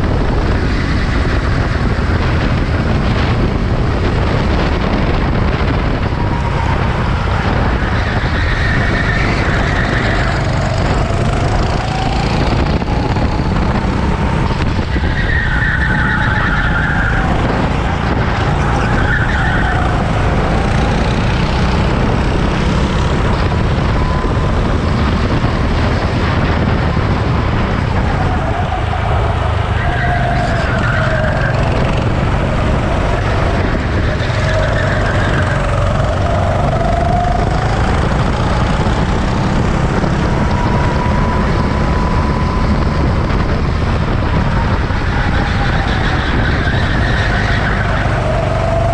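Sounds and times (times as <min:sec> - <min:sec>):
race car engines revving: 0:00.0 - 0:48.9.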